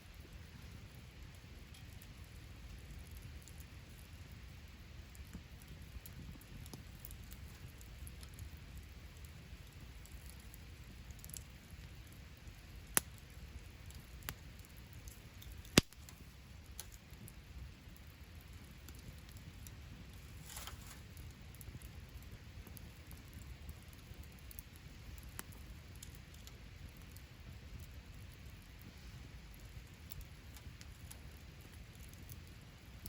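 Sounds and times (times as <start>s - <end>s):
wood fire crackling: 0.0s - 33.0s
sharp pops of fire: 0.2s - 33.0s.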